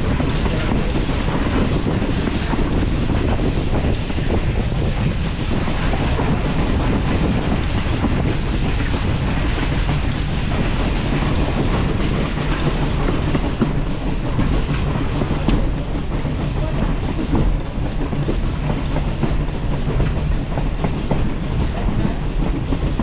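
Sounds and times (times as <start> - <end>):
train cars rumbling and rattling: 0.0 - 23.0.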